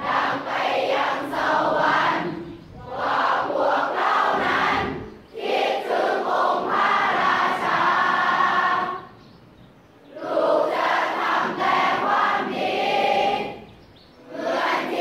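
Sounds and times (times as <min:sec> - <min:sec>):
choir singing: 0:00.0 - 0:09.4, 0:10.1 - 0:15.0.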